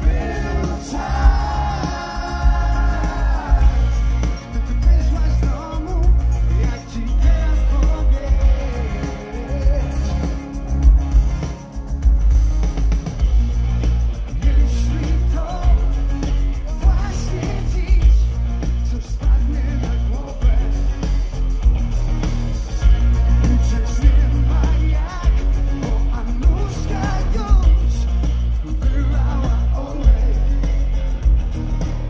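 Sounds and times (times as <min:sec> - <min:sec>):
man singing: 0:00.0 - 0:10.6, 0:14.3 - 0:21.3, 0:22.9 - 0:32.0
live pop-rock band: 0:00.0 - 0:32.0.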